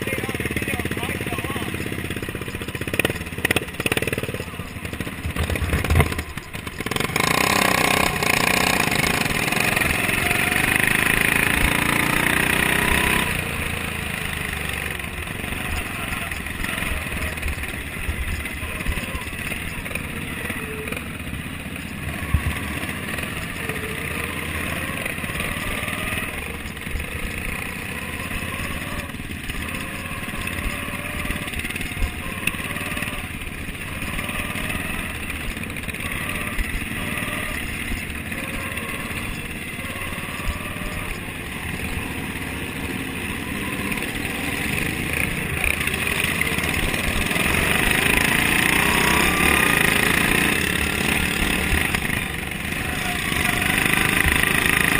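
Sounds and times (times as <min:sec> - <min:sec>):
lawn mower engine running hard: 0:00.0 - 0:54.9.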